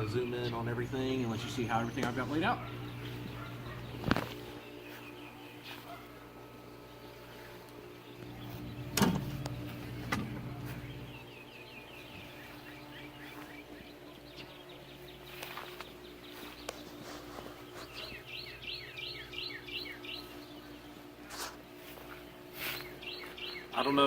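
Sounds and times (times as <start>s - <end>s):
songbird chirping: 0.0s - 24.0s
steady low hum: 0.0s - 24.0s.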